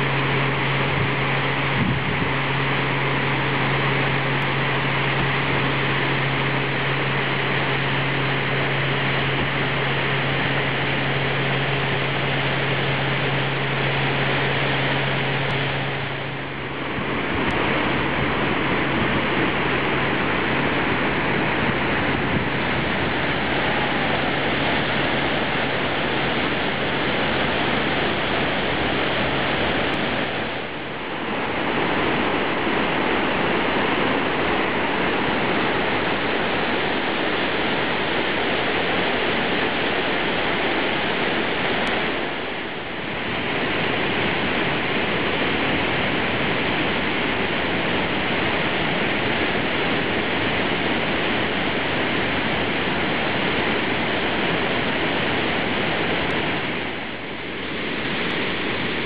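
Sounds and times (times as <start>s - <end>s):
whitewater rushing down spillway: 0.0s - 59.0s.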